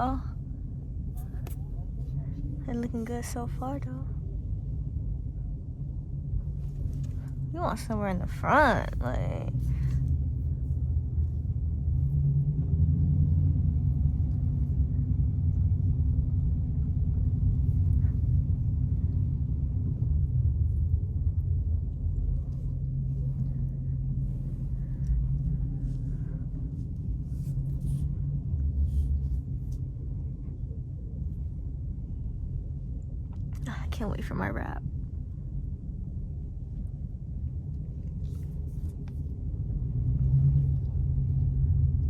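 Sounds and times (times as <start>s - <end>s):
car engine running: 6.2s - 42.0s.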